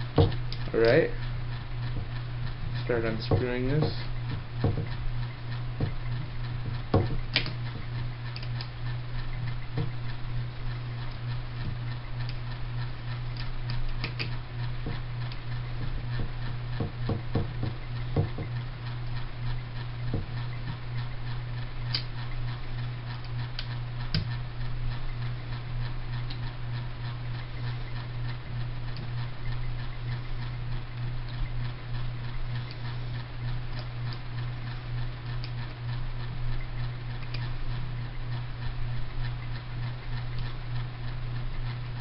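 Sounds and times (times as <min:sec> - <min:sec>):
low hum: 0:00.0 - 0:42.0.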